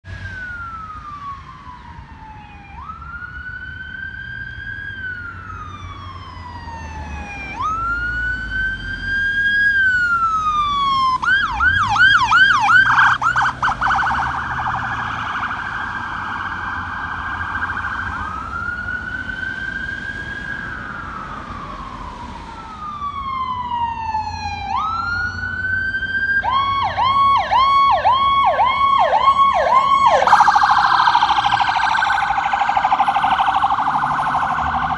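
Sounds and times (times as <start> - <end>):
emergency vehicle siren: 0.0 - 34.9.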